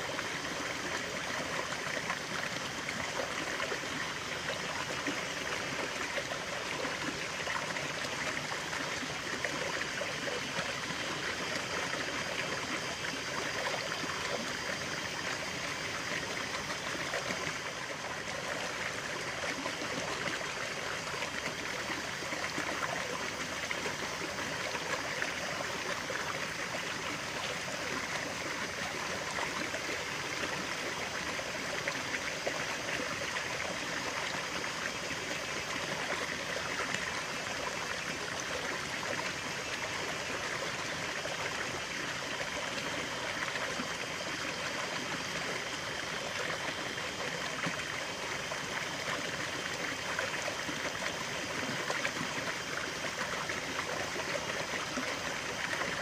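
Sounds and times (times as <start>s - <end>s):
stream flowing and trickling: 0.0s - 56.0s.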